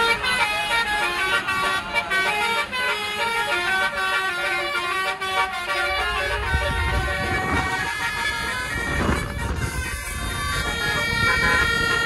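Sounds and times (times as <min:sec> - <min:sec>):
musical air horn playing a tune: 0:00.0 - 0:12.0.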